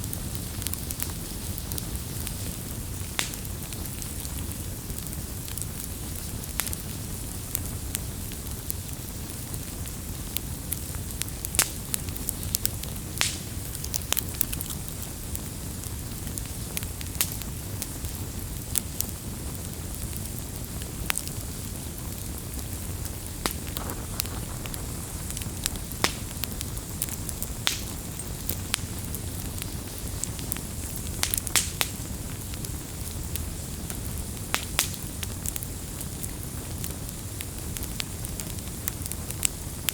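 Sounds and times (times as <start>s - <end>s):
low rush of flames: 0.0s - 39.9s
wood crackling and popping: 0.0s - 39.9s.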